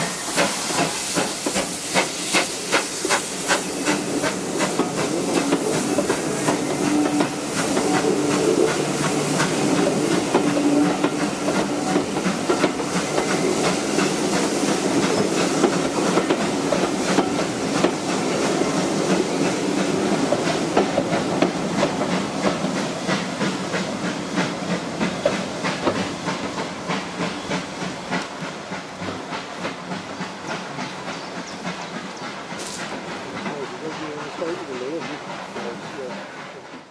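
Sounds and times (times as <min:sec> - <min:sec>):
steam hissing: 0:00.0 - 0:36.9
train clicking and rattling: 0:00.0 - 0:36.9.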